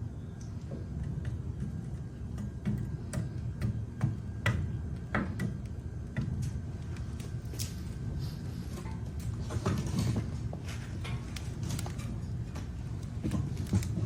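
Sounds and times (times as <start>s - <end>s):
fire low rumble: 0.0s - 14.0s
firewood crackling and popping: 0.2s - 14.0s.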